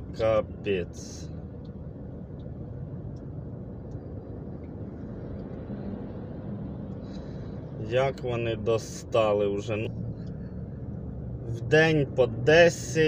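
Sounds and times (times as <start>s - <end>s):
van engine humming: 0.0s - 13.0s.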